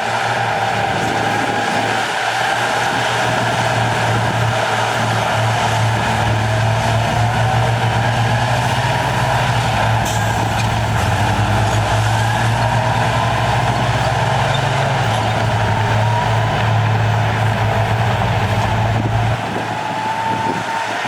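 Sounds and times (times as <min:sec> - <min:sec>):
diesel engine droning: 0:00.0 - 0:21.0
faint engine whine: 0:02.7 - 0:20.8.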